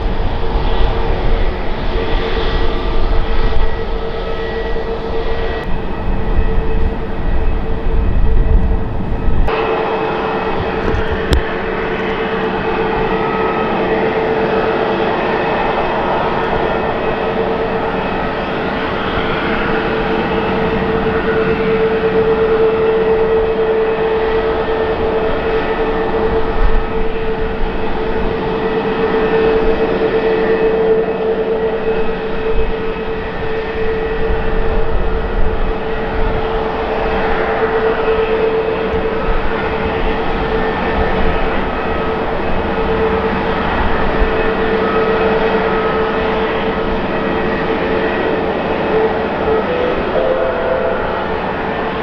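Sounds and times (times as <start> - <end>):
wind rumble on microphone: 0.0 - 49.6
jet engine whine: 0.0 - 52.0.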